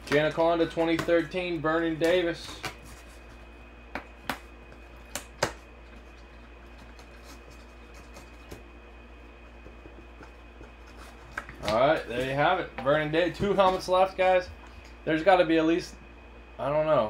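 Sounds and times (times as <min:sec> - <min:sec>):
faint high whine: 0:00.0 - 0:17.0
low electrical hum: 0:00.0 - 0:17.0.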